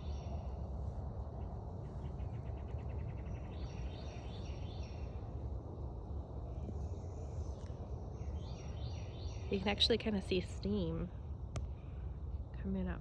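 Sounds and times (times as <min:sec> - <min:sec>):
songbirds singing: 0:00.0 - 0:00.7, 0:01.4 - 0:11.1
steady low rumble: 0:00.0 - 0:13.0.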